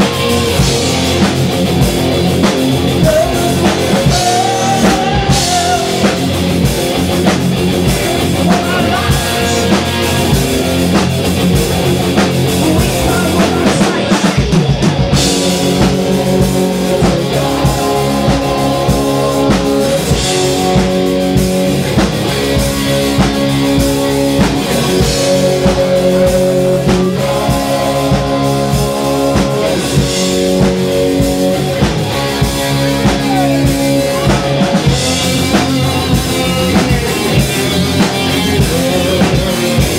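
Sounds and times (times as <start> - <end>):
distorted electric guitar: 0.0 - 39.9
drum kit: 0.0 - 39.9.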